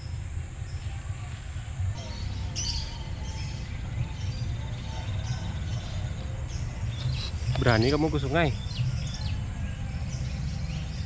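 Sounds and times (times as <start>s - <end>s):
birds chirping: 0.0s - 11.0s
steady low rumble: 0.0s - 11.0s.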